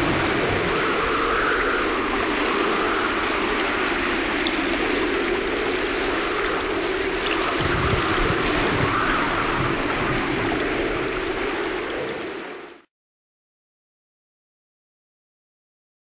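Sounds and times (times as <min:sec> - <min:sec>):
steady rushing noise: 0:00.0 - 0:12.9.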